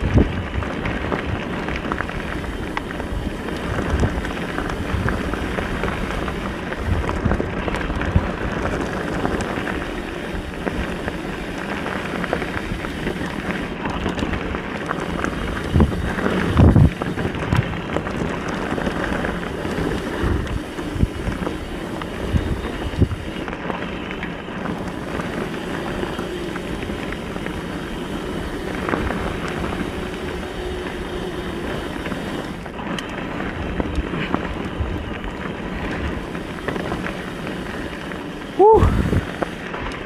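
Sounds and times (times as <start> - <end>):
wind on microphone: 0.0 - 24.0, 24.6 - 40.0
tyre noise on dirt: 0.0 - 40.0.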